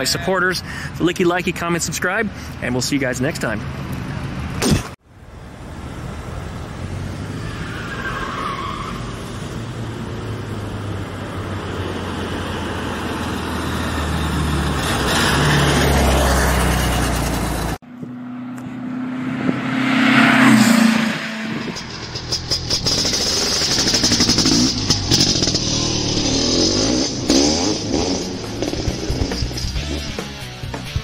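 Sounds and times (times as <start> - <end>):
car engine driving: 3.4 - 31.0
engine drone: 5.1 - 31.0.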